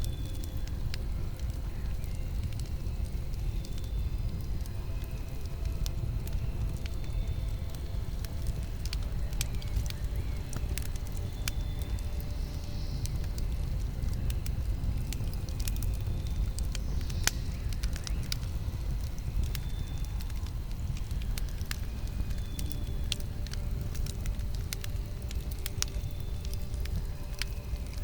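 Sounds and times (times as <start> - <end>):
fire low rumble: 0.0 - 28.0
wood crackling and popping: 0.0 - 28.0.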